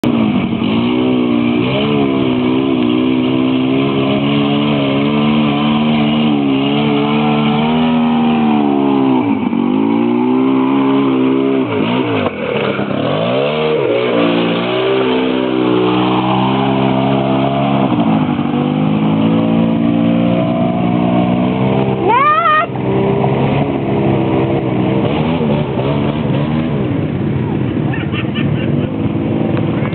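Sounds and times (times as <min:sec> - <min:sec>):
atv engine revving: 0:00.0 - 0:29.9.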